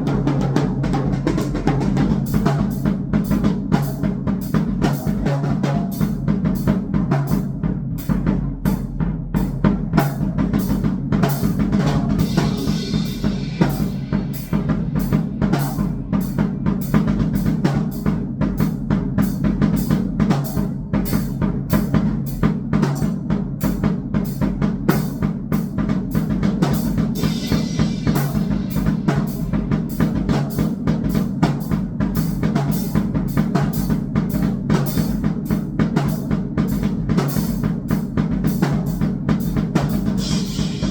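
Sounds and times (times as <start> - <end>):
fast drumming on drum kit: 0.0 - 40.9
washing cymbal: 1.4 - 40.9.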